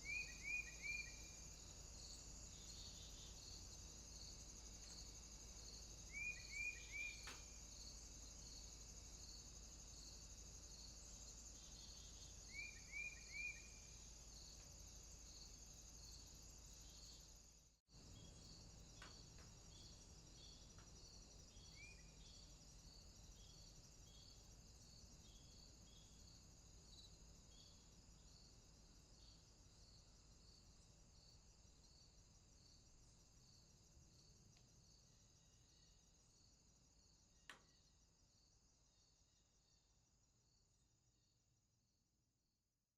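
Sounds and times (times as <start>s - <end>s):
crickets chirping: 0.0s - 41.4s.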